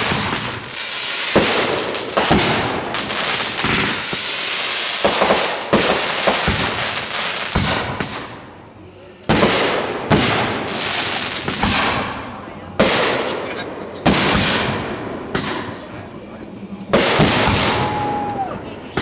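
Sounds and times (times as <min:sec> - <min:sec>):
fireworks bangs: 0:00.0 - 0:16.3, 0:16.9 - 0:19.0
fireworks crackling: 0:00.0 - 0:19.0.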